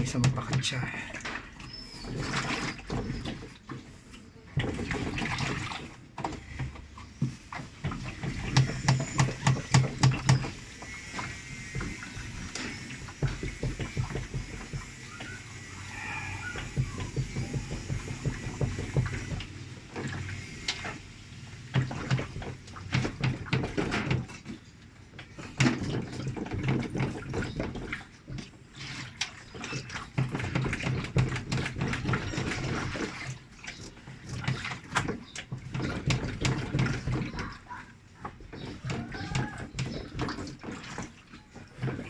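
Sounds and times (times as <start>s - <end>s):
water sloshing in washing machine: 0.0s - 42.0s.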